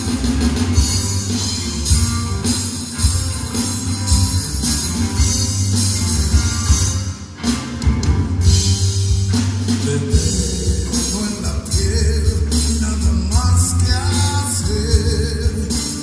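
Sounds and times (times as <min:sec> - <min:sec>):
rock band playing live: 0:00.0 - 0:16.0.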